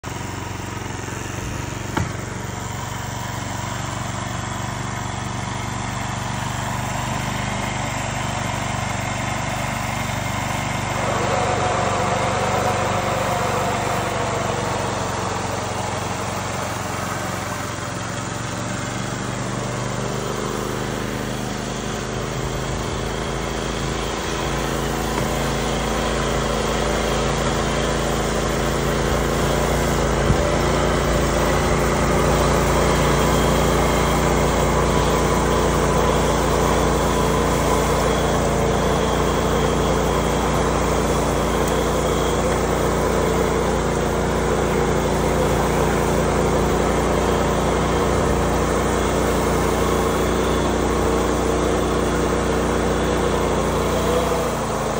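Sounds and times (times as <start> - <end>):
small engine running: 0.0 - 54.9
wavering sprayer whine: 0.0 - 54.9.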